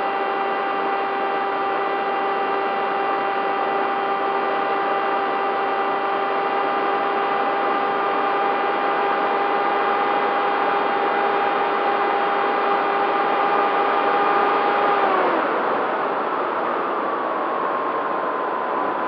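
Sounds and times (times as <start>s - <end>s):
electric motor propeller whine: 0.0s - 19.0s.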